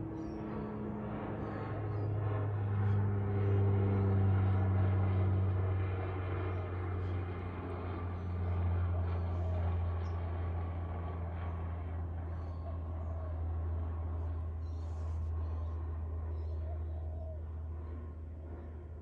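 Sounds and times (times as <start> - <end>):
low steady drone: 0.0 - 19.0.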